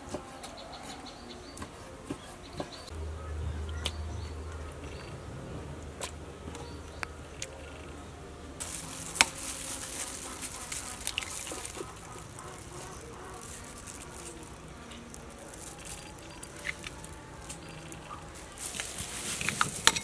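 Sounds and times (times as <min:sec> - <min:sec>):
low hum: 0:02.9 - 0:20.0.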